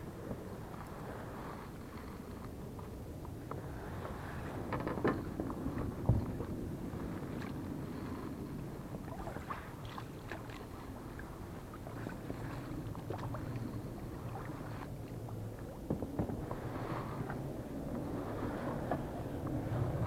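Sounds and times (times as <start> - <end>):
boat hum: 0.0 - 20.0.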